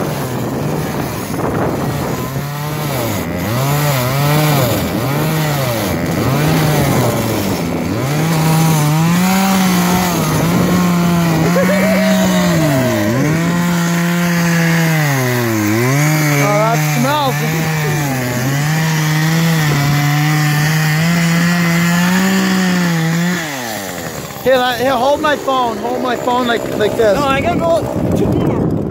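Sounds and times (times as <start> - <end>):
chainsaw cutting ice: 0.0 - 28.9.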